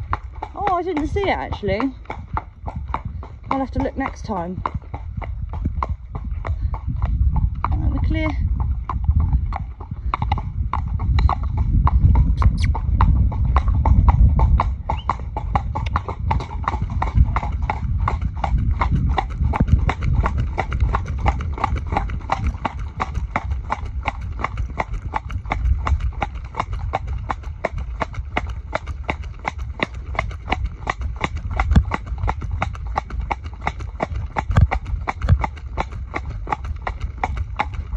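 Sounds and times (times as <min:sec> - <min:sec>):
horse hooves trotting on tarmac: 0:00.0 - 0:37.9
low rumble: 0:00.0 - 0:37.9.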